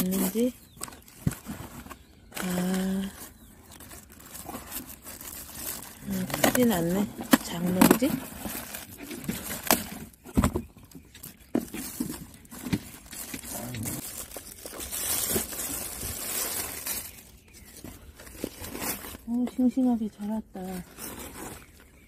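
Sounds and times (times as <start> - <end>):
paper and plastic crinkling: 0.0 - 20.0, 20.6 - 22.0.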